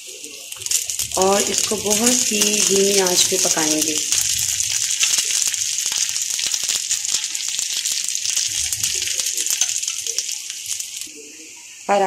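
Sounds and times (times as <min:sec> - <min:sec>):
ghee sizzling and crackling: 0:00.0 - 0:11.9.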